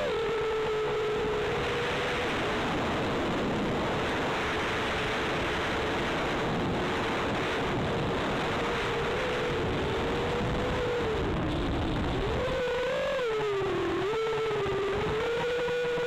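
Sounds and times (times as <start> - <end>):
drone motor hum: 0.0 - 16.0
wind and propeller rush: 0.0 - 16.0.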